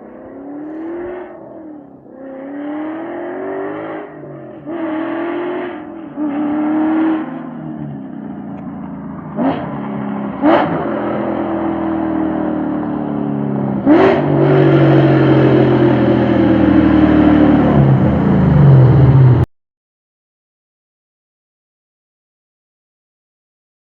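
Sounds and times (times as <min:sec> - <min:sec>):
car exhaust revving: 0:00.0 - 0:19.4.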